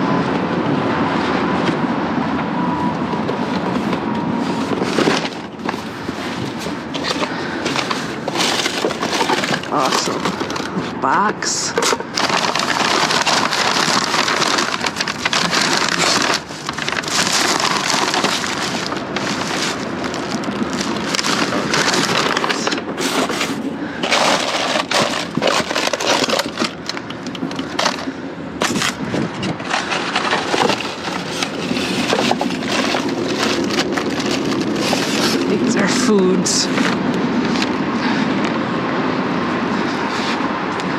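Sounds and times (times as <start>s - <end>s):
cardboard and plastic bags crinkling: 3.2s - 38.0s.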